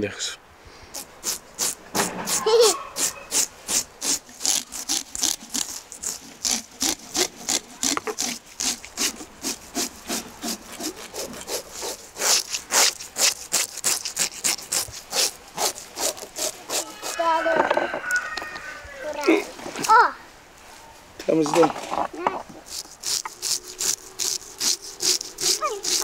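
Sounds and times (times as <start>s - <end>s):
blades scraping fish scales: 0.9s - 17.5s, 21.5s - 26.0s.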